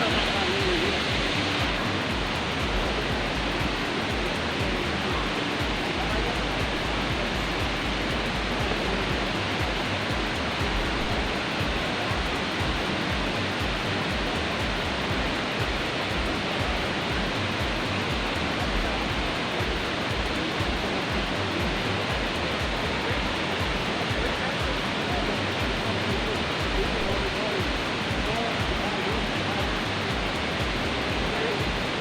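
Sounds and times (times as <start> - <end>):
waterfall splashing into a pool: 0.0 - 32.0.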